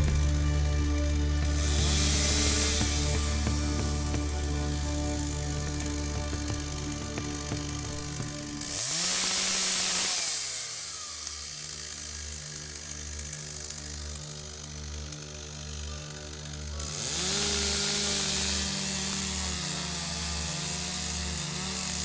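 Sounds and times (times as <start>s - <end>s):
chainsaw revving and idling: 0.0s - 22.0s.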